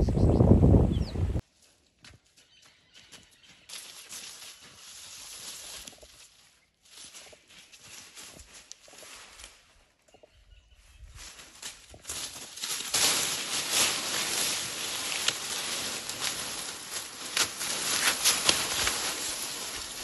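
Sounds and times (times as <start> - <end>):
branches and stalks rustling: 3.4 - 20.0.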